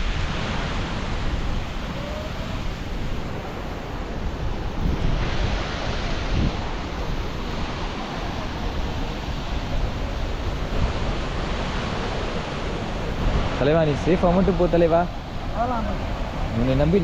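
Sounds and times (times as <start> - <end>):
wind: 0.0 - 17.0
wind buffeting microphone: 0.0 - 17.0.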